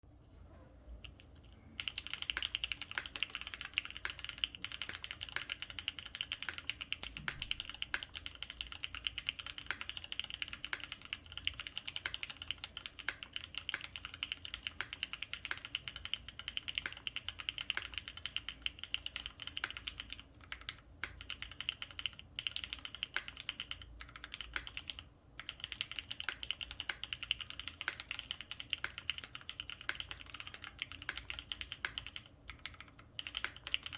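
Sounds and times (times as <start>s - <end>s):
mechanical keyboard typing: 1.1s - 33.9s.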